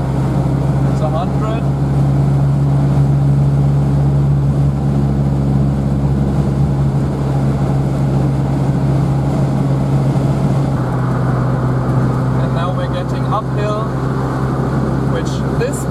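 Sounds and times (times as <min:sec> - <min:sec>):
car engine droning inside cabin: 0:00.0 - 0:15.9.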